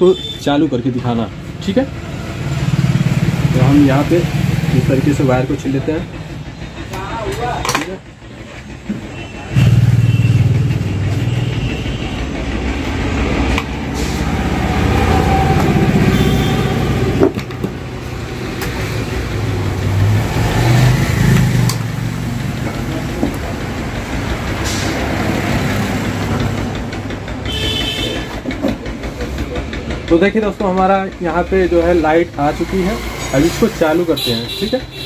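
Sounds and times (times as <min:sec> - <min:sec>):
vehicle engine rumble: 0:00.7 - 0:34.2.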